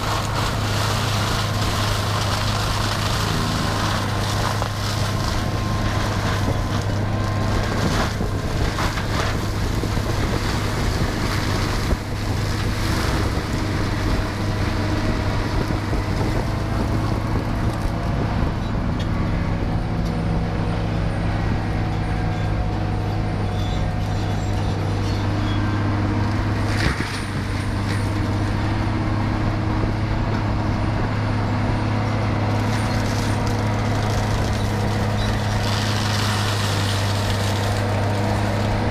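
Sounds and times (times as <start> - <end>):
root grinding machine engine drone: 0.0 - 38.9.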